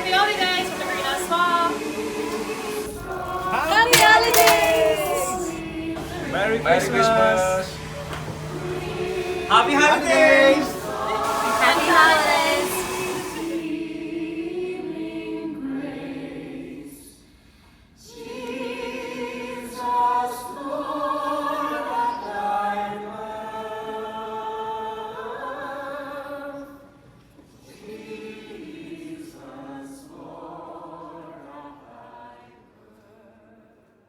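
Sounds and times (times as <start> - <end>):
choir singing held notes: 0.0 - 17.2, 18.0 - 26.8, 27.5 - 33.6.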